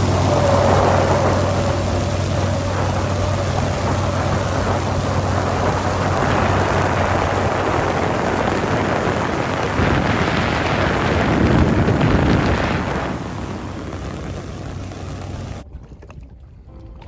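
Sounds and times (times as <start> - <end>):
rushing wind: 0.0 - 15.6
water rushing: 0.0 - 15.6
boat motor hum: 0.0 - 17.0.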